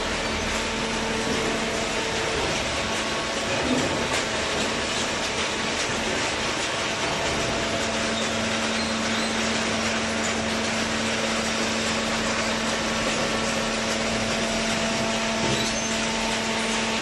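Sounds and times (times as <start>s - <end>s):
electric motor and pump humming: 0.0s - 17.0s.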